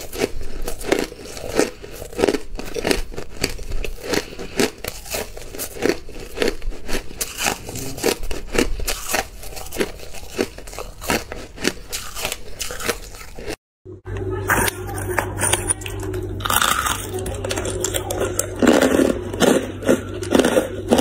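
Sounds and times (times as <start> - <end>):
ice being chewed: 0.0 - 13.6, 14.5 - 21.0.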